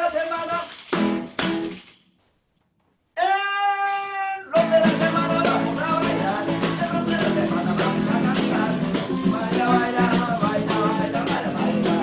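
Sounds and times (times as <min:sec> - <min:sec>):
upbeat band song: 0:00.0 - 0:01.6, 0:03.2 - 0:12.0
maraca shaker: 0:00.0 - 0:02.2, 0:04.6 - 0:12.0.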